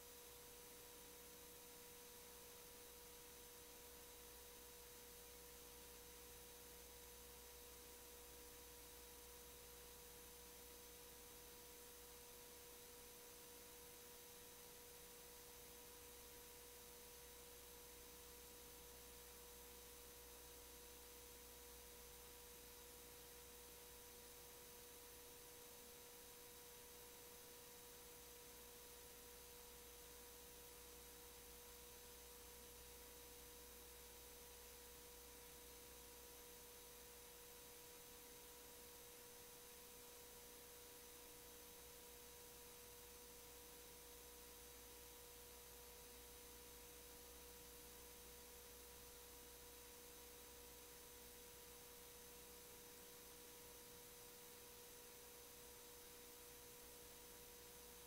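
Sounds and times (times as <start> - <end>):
low hum and hiss: 0.0 - 58.0.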